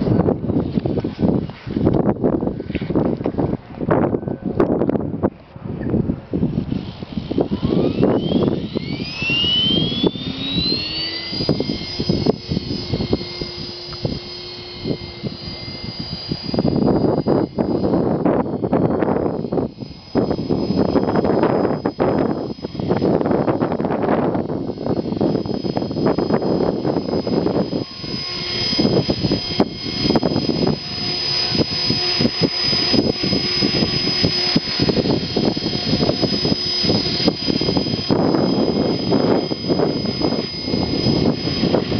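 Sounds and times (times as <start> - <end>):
helicopter motor and rotor whine: 0.0 - 41.9
wind buffeting microphone: 0.0 - 41.9.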